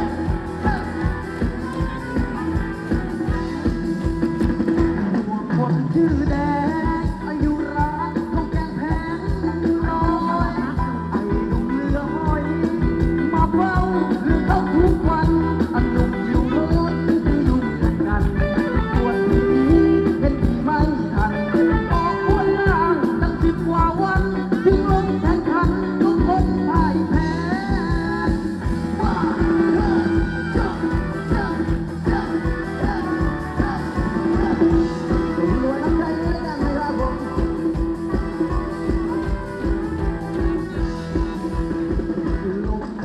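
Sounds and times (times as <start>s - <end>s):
fast drum beat: 0.0s - 43.0s
person singing: 0.0s - 43.0s.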